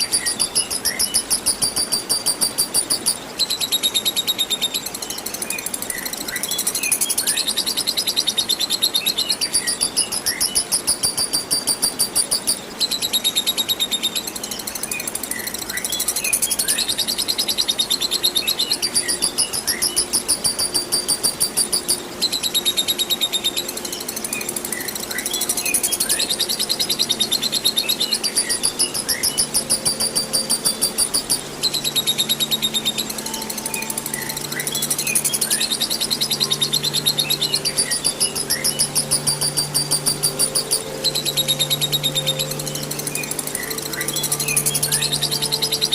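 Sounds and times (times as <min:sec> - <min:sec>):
lovebird chattering song: 0:00.0 - 0:45.9.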